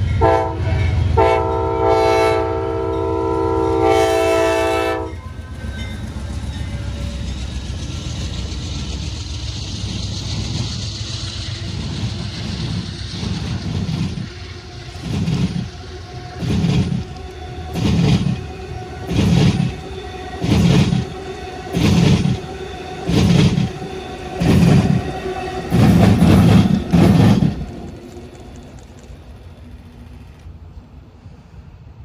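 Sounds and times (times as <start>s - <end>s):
train rolling past: 0.0s - 32.0s.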